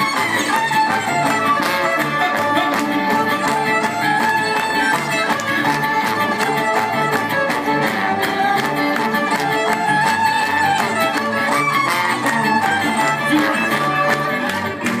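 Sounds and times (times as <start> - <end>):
guitar and double bass beat: 0.0 - 15.0
violin melody: 0.0 - 15.0.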